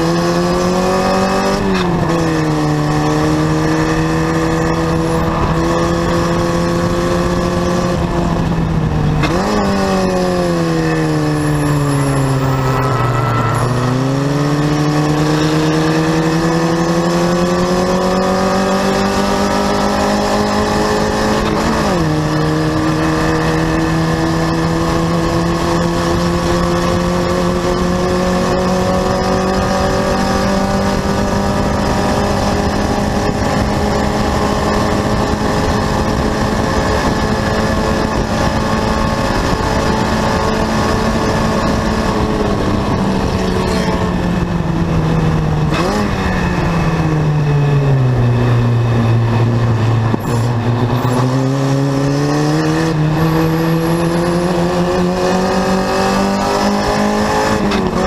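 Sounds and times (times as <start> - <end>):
racing car engine: 0.0 - 58.0
wind noise: 0.0 - 58.0.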